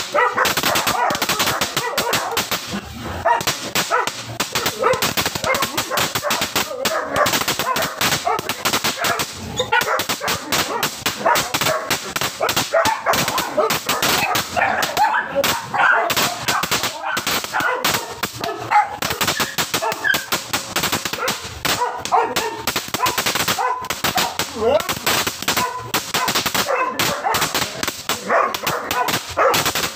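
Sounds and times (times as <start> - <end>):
firework crackling pops: 0.0 - 29.9.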